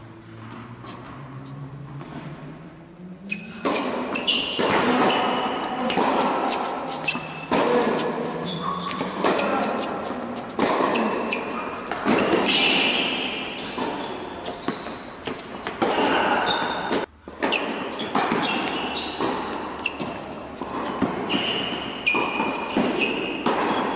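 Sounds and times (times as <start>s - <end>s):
shoe squeaks: 3.2s - 23.9s
racket striking ball: 3.3s - 23.9s
ball bouncing: 3.4s - 23.9s.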